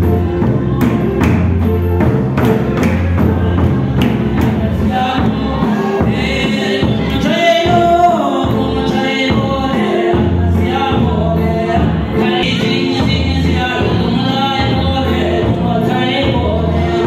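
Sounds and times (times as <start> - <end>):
hand drum beat: 0.0 - 16.7
congregation singing: 0.0 - 17.0.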